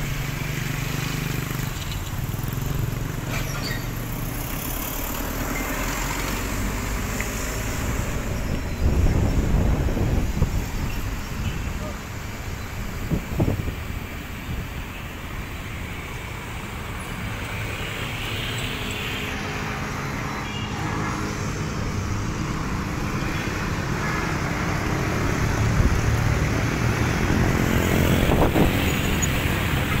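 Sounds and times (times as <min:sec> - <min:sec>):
cars and motorcycles driving past: 0:00.0 - 0:30.0.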